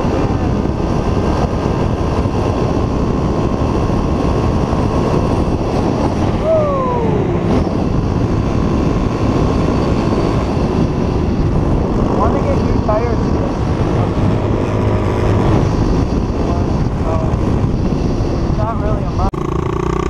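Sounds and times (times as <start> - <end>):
motorbike engine running: 0.0 - 20.0
wind rumble on microphone: 0.0 - 20.0.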